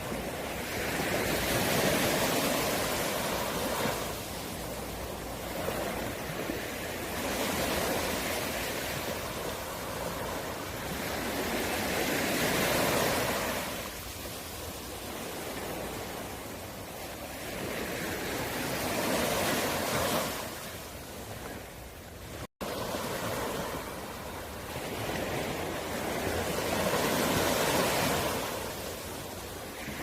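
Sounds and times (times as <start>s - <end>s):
sea waves washing onto shore: 0.0s - 30.0s.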